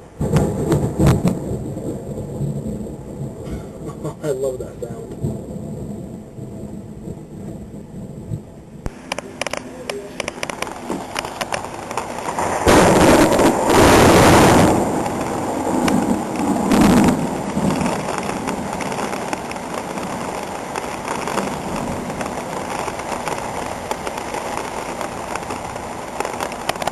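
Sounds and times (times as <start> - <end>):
heavy rain: 0.0 - 26.9
thunder rumbling: 0.0 - 26.9.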